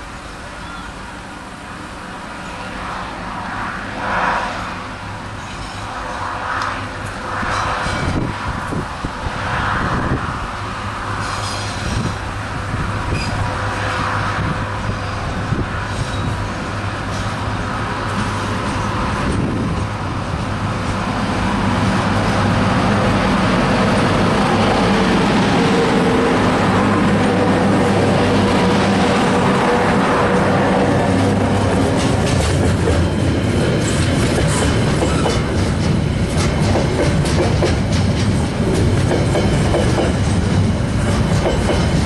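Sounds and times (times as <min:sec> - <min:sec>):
train wheel and rail noise: 0:00.0 - 0:42.0.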